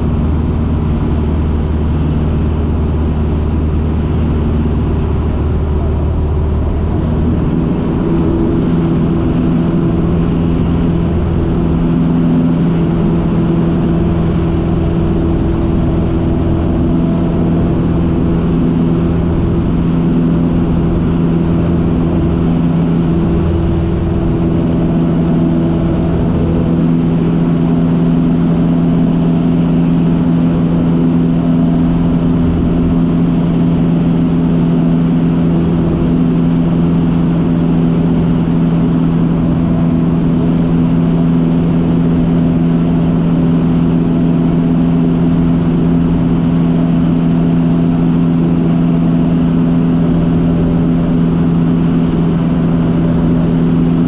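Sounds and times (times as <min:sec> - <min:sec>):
small plane engine droning: 0:00.0 - 0:54.0.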